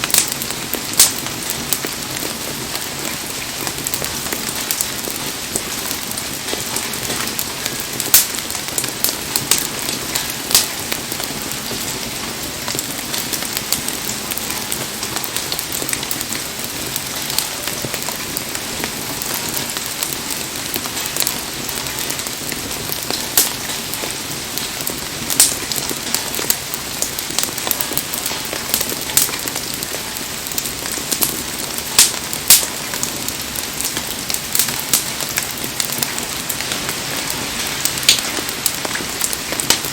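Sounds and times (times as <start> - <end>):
campfire wood popping: 0.0 - 39.9
heavy rain falling: 0.0 - 39.9.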